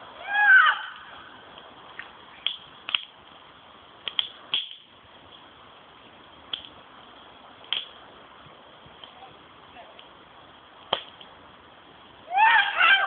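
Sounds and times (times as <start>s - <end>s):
campfire crackling: 0.0s - 13.0s
low hiss: 0.0s - 13.0s.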